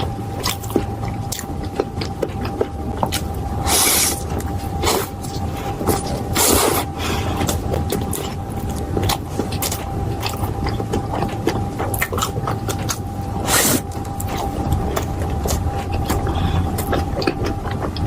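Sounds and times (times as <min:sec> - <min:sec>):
chewing crisp food: 0:00.0 - 0:18.0
faint steady hum: 0:00.0 - 0:18.0.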